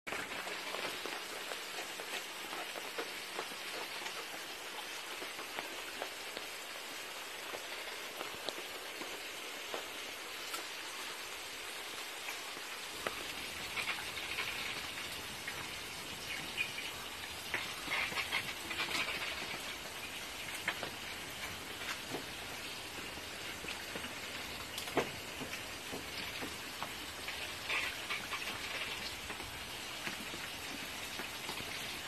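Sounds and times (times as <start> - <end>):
pigs snuffling and chewing: 0.1 - 32.0.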